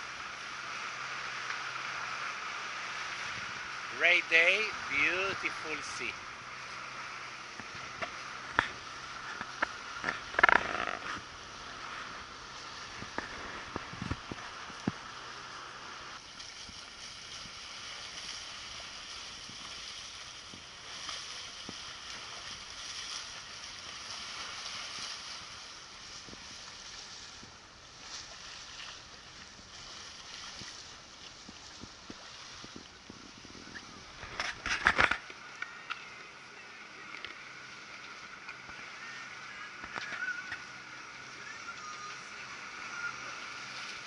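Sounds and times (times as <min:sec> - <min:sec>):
hiss of wind and waves: 0:00.0 - 0:44.0
water rushing past a hull: 0:00.0 - 0:44.0.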